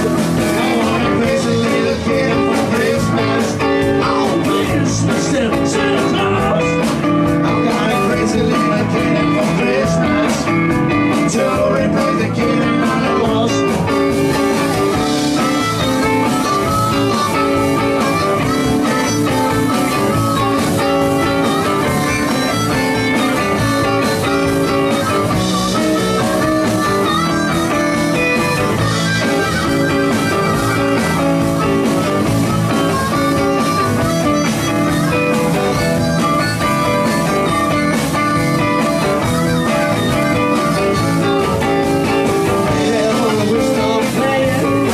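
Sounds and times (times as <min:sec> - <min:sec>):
blues rock band playing: 0:00.0 - 0:44.9
harmonica: 0:00.0 - 0:44.9.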